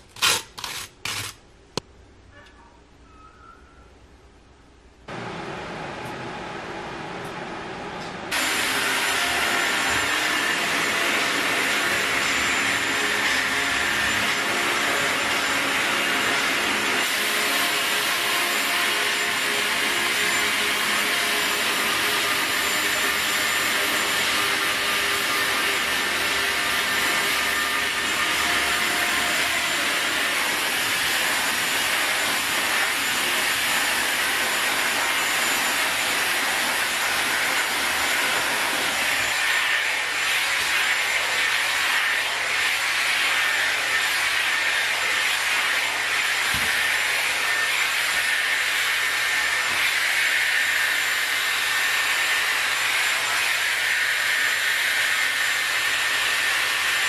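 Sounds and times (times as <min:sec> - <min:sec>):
hair dryer blowing: 0:05.1 - 0:57.0.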